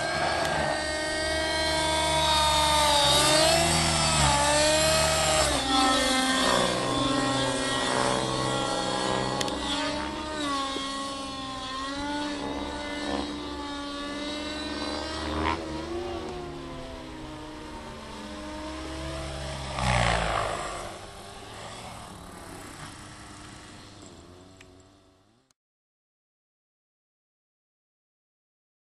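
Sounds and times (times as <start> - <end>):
rc helicopter engine whining drone: 0.0 - 25.5.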